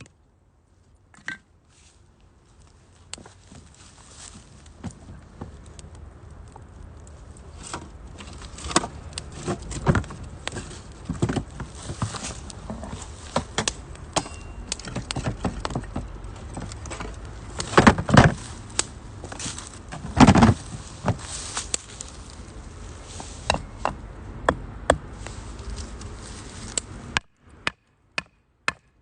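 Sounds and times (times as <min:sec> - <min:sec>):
firewood crackling and popping: 0:02.2 - 0:28.3.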